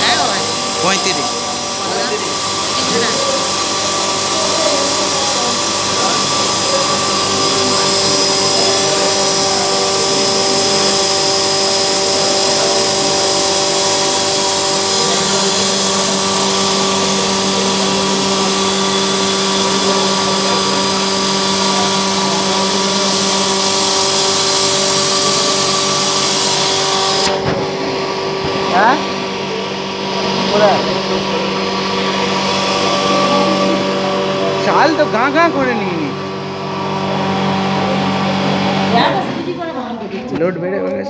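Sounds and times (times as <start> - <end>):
grain grinding machine running: 0.0 - 39.9.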